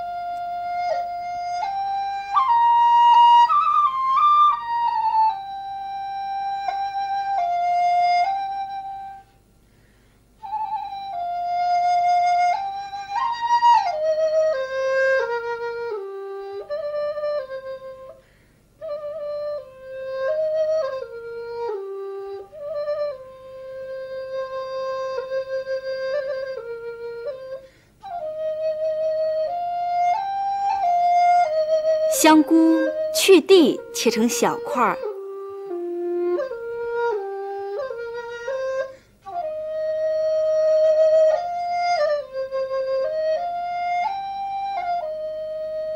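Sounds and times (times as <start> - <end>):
solo flute slow melody: 0.0 - 9.5, 10.4 - 45.9.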